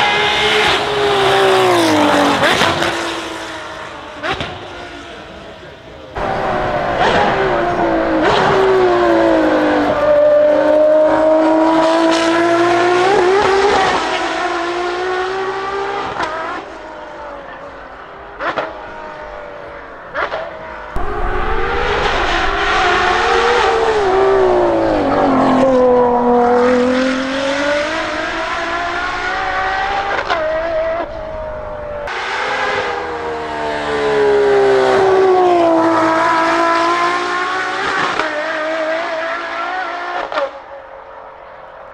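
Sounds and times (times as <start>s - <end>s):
sports car engine revving: 0.0s - 40.5s.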